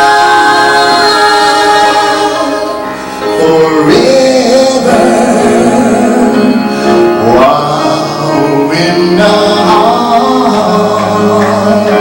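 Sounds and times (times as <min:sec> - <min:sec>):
band with guitar: 0:00.0 - 0:12.0
group singing gospel: 0:00.0 - 0:12.0.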